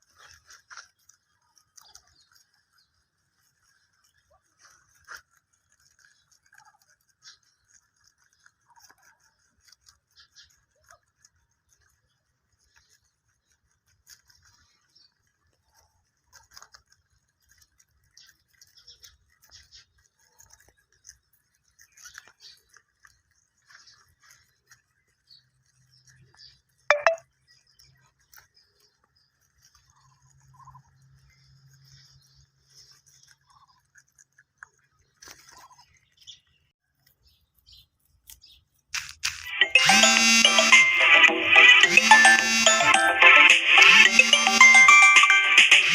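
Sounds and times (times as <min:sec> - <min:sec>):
rabbits chewing grass: 0:00.0 - 0:45.9.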